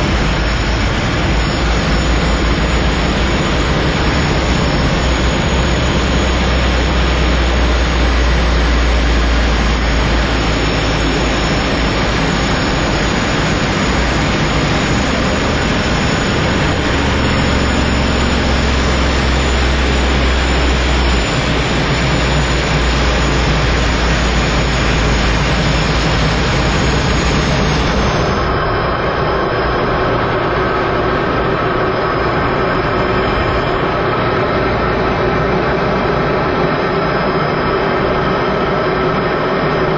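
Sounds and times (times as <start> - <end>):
aircraft engine drone: 0.0 - 39.9
deep rumble: 0.0 - 39.9.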